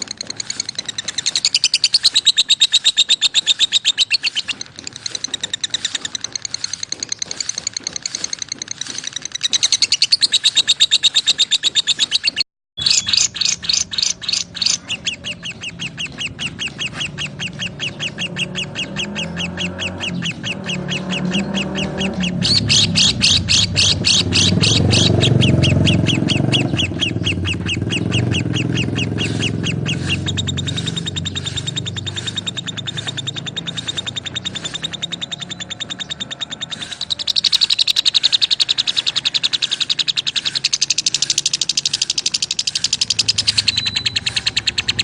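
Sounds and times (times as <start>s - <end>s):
lovebirds chirping: 0.0s - 45.0s.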